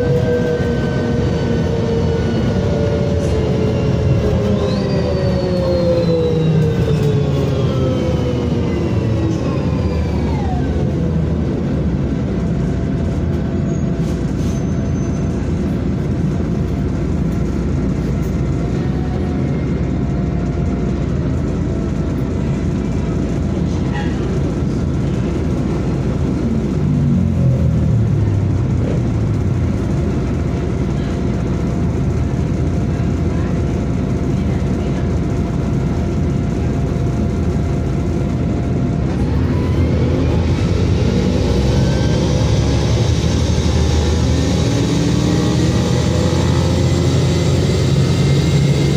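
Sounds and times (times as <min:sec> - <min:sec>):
bus engine and road rumble: 0:00.0 - 0:48.9.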